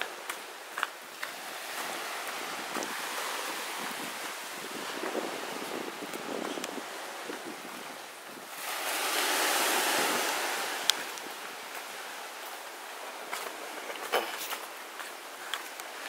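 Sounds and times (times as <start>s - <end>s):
wave washing up a beach: 0.0s - 16.0s.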